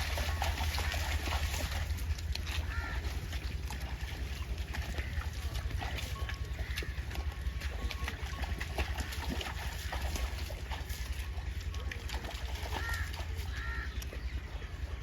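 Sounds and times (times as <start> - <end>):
steady low rumble: 0.0 - 15.0
water sloshing and splashing: 0.0 - 15.0.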